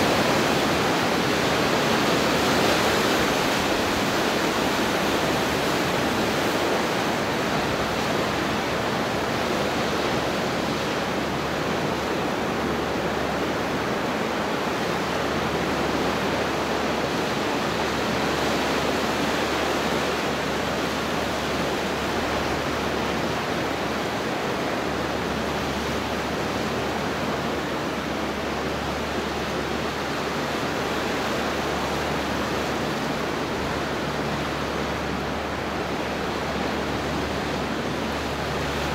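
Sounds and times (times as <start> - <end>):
surf washing over rocks: 0.0 - 38.9.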